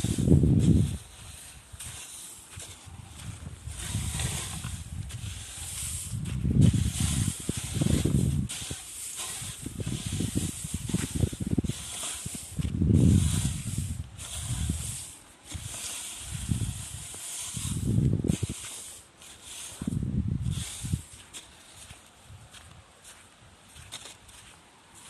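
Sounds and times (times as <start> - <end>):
wind gusting on microphone: 0.0 - 18.8, 19.7 - 21.2.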